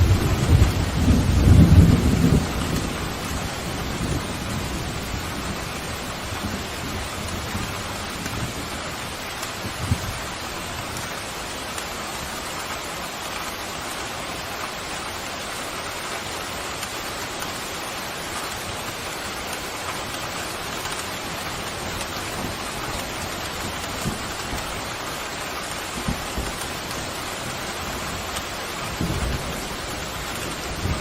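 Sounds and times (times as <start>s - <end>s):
pouring rain: 0.0s - 31.0s.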